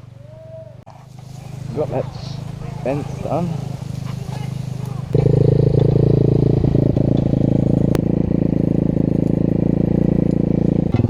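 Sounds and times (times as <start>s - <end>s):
small motorcycle engine running: 0.9s - 11.0s.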